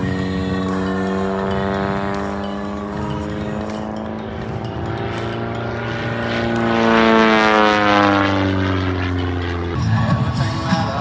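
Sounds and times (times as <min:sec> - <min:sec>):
propeller airplane droning past: 0:00.0 - 0:11.0.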